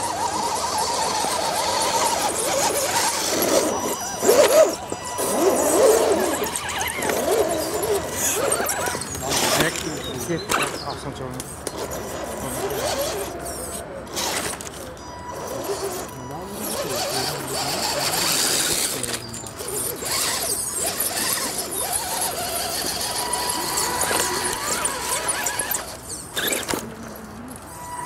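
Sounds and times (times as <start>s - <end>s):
electric motor whining and squealing: 0.0s - 28.0s.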